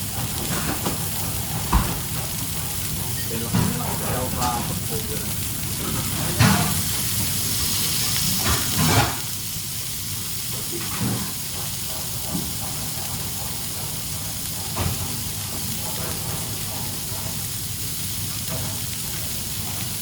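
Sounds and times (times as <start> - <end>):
cooking hiss on a stove: 0.0 - 20.0.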